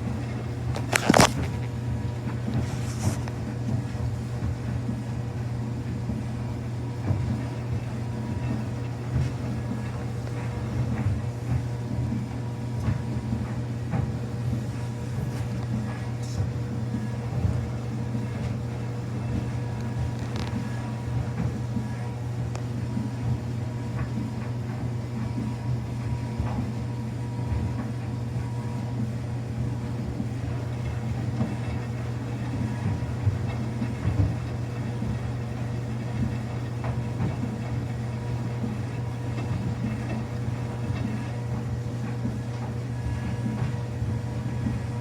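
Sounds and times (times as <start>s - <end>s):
washing machine humming: 0.0s - 45.0s.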